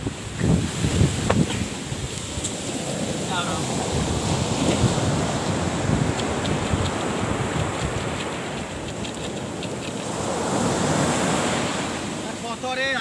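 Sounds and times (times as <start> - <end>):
wind buffeting the microphone: 0.0 - 12.4
surf washing up a beach: 0.0 - 13.0.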